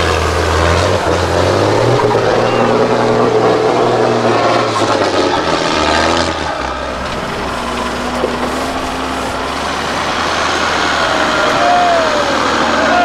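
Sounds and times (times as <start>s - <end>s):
diesel truck engine pulling hard: 0.0s - 13.0s.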